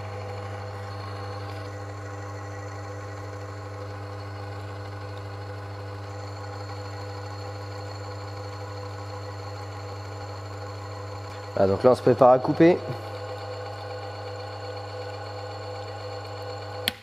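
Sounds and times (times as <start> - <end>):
test machine motor humming: 0.0 - 17.0.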